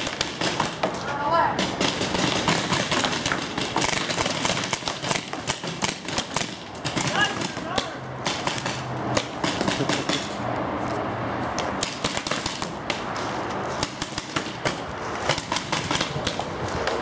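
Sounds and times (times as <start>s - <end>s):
paintball markers firing: 0.0s - 1.0s, 1.6s - 10.4s, 11.8s - 13.0s, 13.8s - 17.0s.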